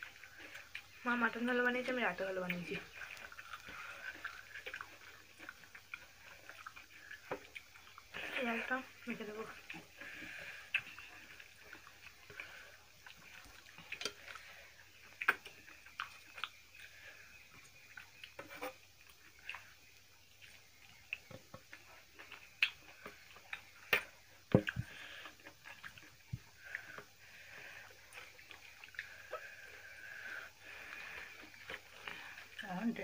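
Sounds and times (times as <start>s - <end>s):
chewing and mouth smacks: 0.0s - 1.5s, 2.2s - 32.8s.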